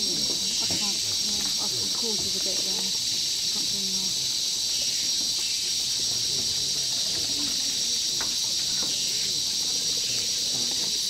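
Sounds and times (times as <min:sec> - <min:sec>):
faint murmuring voices: 0:00.0 - 0:11.0
insect chorus drone: 0:00.0 - 0:11.0.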